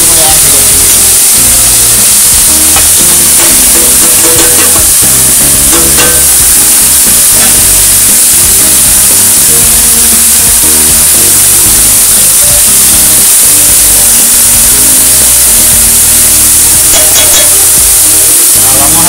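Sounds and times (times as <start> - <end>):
beef sizzling in oil: 0.0 - 19.0.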